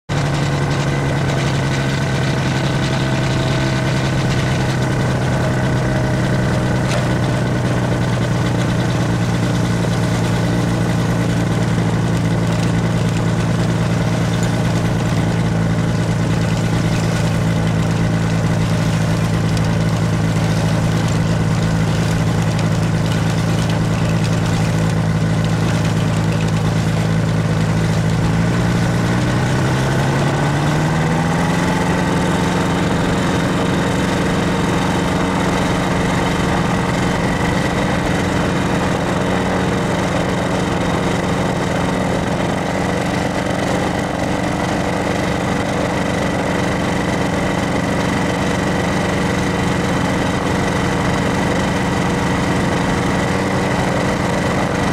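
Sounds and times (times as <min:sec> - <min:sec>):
gyrocopter engine and propeller running: 0:00.1 - 0:54.9.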